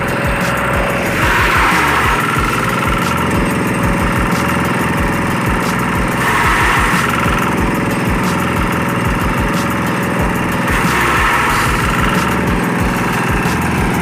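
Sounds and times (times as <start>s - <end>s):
diesel engine running: 0.0s - 14.0s
rushing noise: 0.0s - 14.0s.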